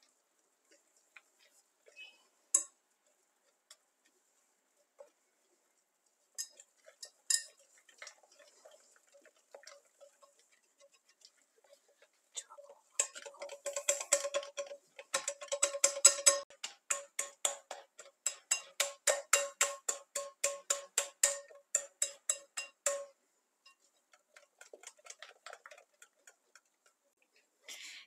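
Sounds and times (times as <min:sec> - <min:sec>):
whisk tapping glass bowl: 0:02.5 - 0:04.2, 0:06.2 - 0:27.1.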